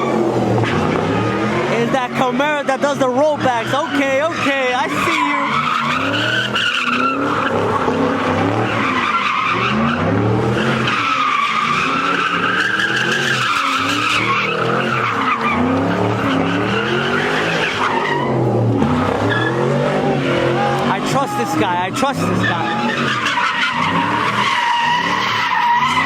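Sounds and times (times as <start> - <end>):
car engine revving: 0.0 - 26.0
tires squealing: 0.0 - 26.0.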